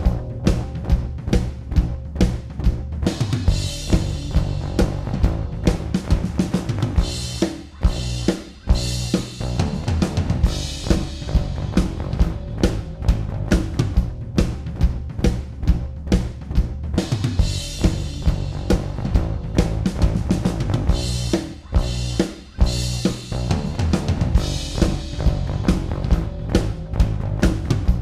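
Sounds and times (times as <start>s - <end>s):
bass guitar notes: 0.0s - 28.0s
drum kit groove: 0.0s - 28.0s.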